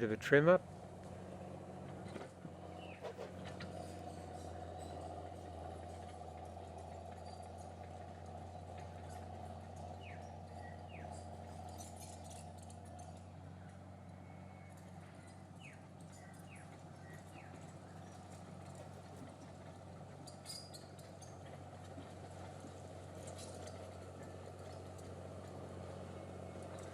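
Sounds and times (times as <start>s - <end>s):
track loader engine idling: 0.0s - 26.9s.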